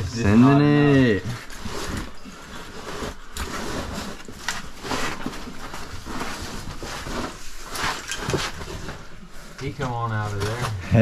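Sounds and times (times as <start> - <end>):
clothing scraping against rock: 0.0 - 11.0.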